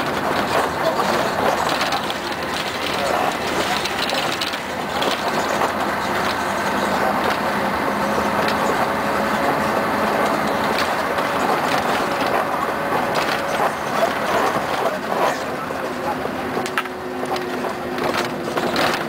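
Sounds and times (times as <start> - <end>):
body rattles and knocks: 0.0 - 7.5, 8.2 - 16.0, 16.6 - 19.0
bus diesel engine hum: 0.0 - 19.0
road noise: 0.0 - 19.0.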